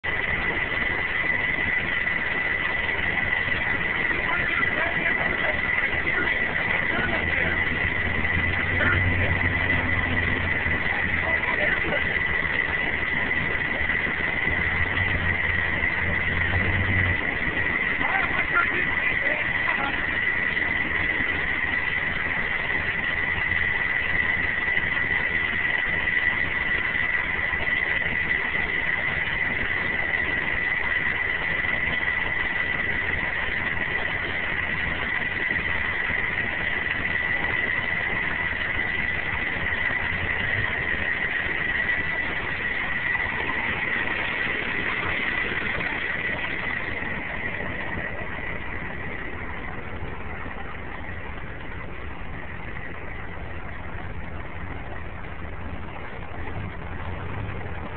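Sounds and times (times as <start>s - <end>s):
diesel truck engine running: 0.0s - 57.9s
high whine: 0.0s - 57.9s.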